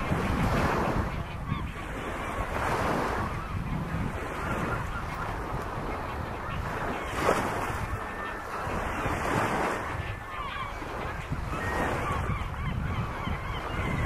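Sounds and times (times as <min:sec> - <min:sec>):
seabird colony calling: 0:00.0 - 0:14.0
wind buffeting microphone: 0:00.0 - 0:14.0.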